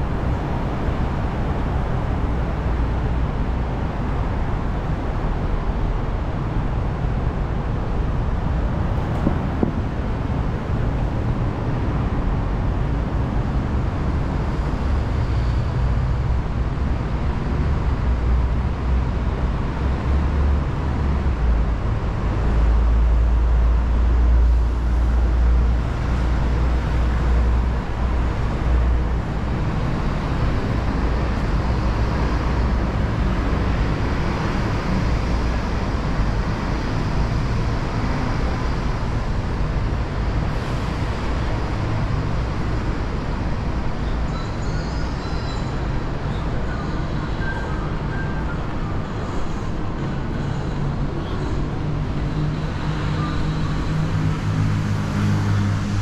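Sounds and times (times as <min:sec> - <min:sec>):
passing cars and buses: 0:00.0 - 0:56.0.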